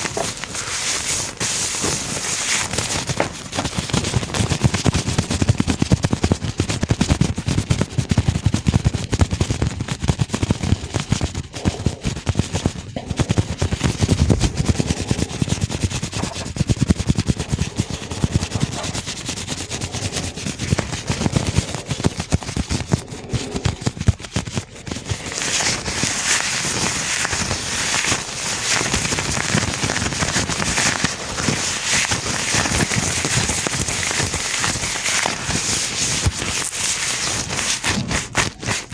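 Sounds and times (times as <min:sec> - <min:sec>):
gloved hands rubbing and crinkling: 0:00.0 - 0:38.9.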